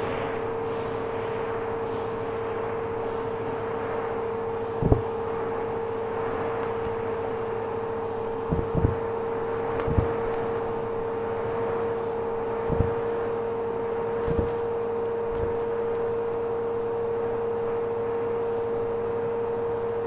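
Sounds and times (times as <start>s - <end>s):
vacuum cleaner humming: 0.0s - 20.0s.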